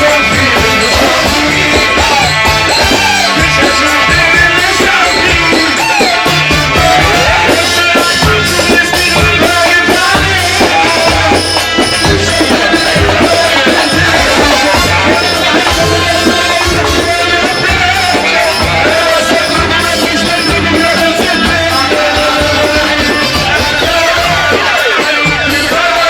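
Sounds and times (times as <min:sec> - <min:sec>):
loud music with drum beat: 0:00.0 - 0:26.0.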